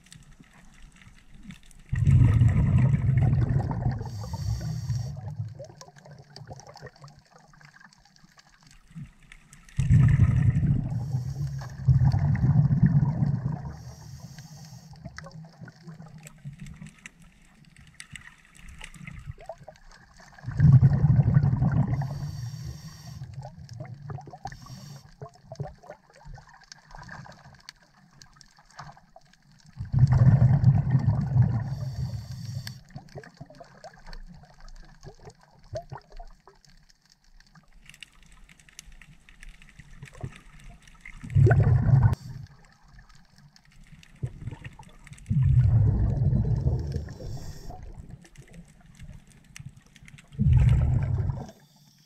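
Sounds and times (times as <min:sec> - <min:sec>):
exhaled air bubbling underwater: 0:00.0 - 0:38.5, 0:39.2 - 0:52.0.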